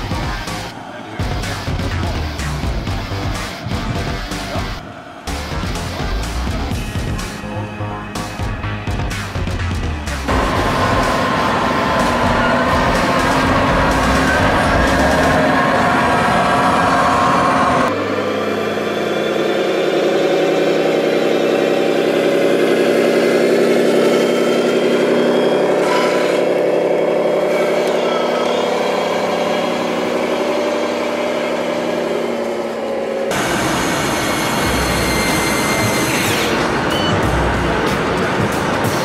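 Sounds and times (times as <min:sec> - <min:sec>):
diesel engine idling sound: 0:00.0 - 0:39.0.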